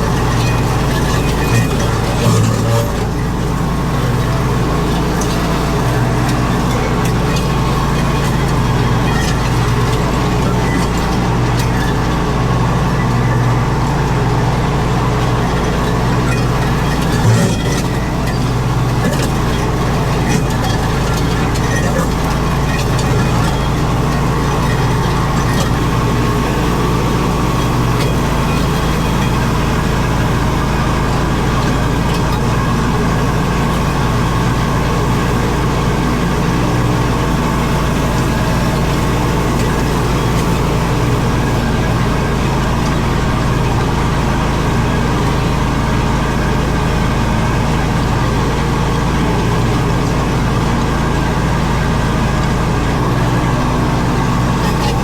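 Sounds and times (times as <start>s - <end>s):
mower engine running: 0.0s - 55.0s.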